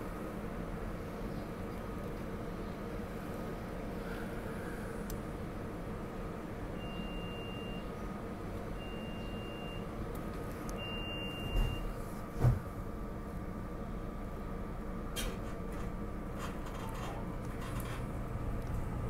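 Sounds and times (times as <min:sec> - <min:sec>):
train car hum and rumble: 0:00.0 - 0:19.0.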